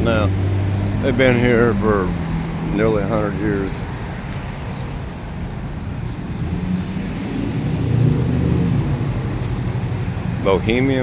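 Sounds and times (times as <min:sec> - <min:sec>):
steady traffic noise: 0:00.0 - 0:11.0
vehicle engine rumble passing: 0:00.0 - 0:11.0.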